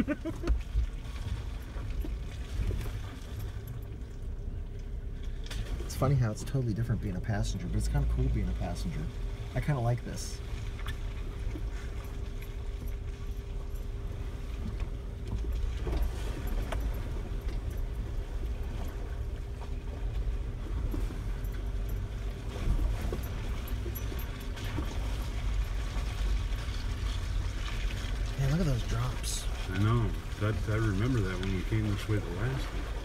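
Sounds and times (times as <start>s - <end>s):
tires knocking over ruts: 0.0s - 33.0s
vehicle engine rumble: 0.0s - 33.0s.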